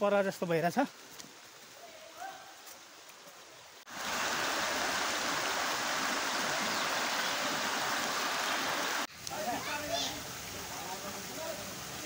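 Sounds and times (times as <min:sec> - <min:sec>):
rushing water: 0:00.1 - 0:12.0.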